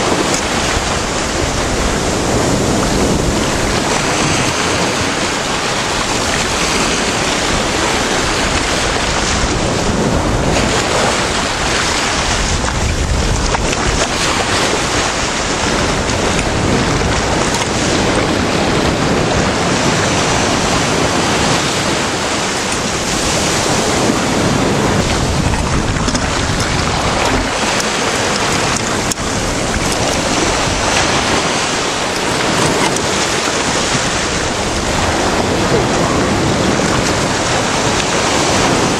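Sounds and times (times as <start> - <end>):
waves breaking: 0.0 - 38.9
wind buffeting microphone: 0.0 - 38.9.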